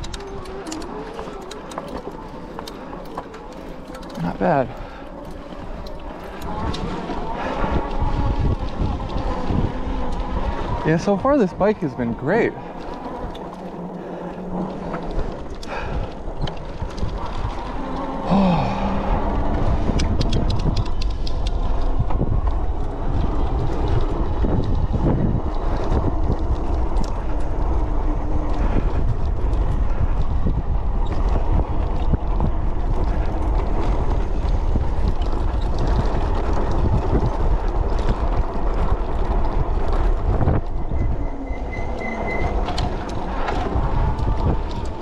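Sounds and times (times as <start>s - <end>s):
tyres and frame rattling over rocks: 0.0s - 45.0s
wind buffeting microphone: 0.0s - 45.0s.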